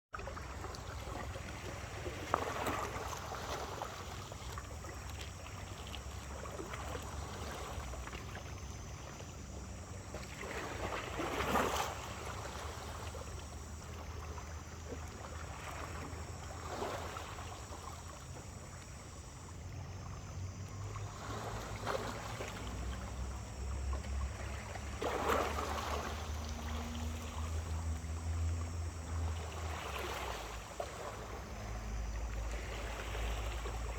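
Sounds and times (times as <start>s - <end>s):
small waves breaking: 0.2s - 33.9s
thin high buzz: 2.5s - 33.9s.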